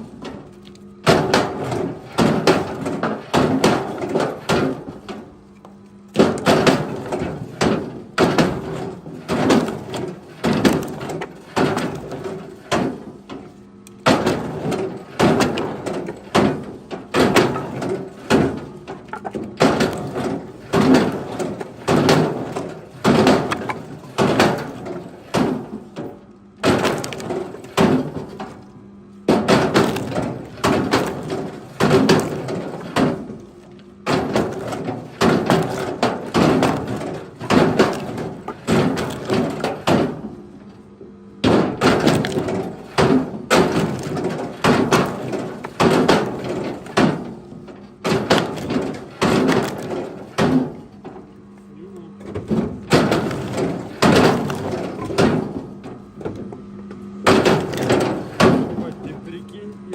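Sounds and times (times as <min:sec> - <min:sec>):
firewood chunks knocking together: 0:00.1 - 0:40.8, 0:41.4 - 0:51.3, 0:52.2 - 0:59.4.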